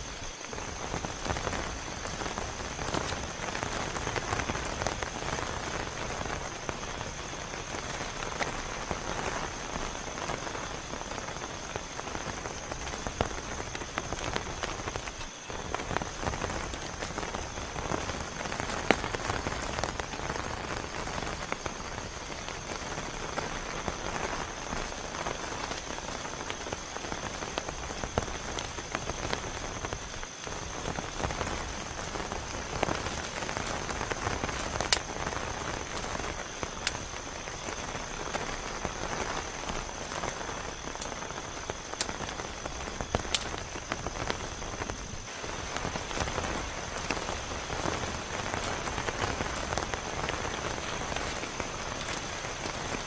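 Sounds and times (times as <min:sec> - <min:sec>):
heavy rain falling: 0:00.0 - 0:53.0
raindrops striking close by: 0:00.0 - 0:53.0.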